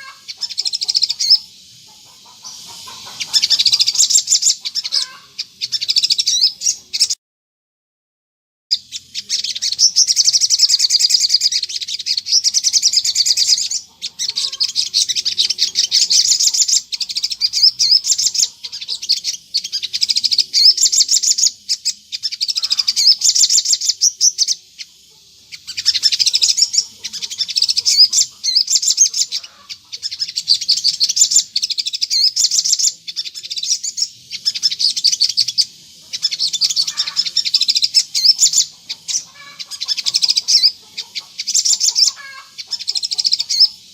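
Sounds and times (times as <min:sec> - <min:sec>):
bird twittering song: 0:00.0 - 0:07.2, 0:08.7 - 0:43.9.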